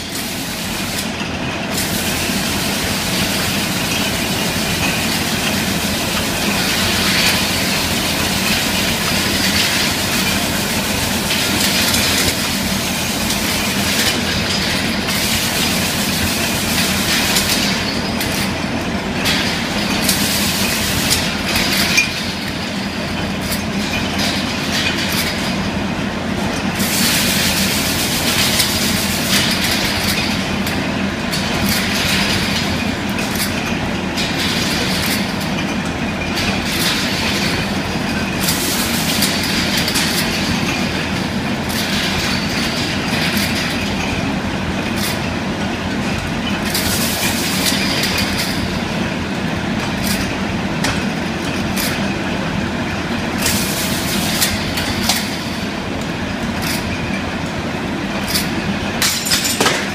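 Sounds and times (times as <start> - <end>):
glass bottles clattering in machine: 1.0 - 55.7, 58.1 - 59.9.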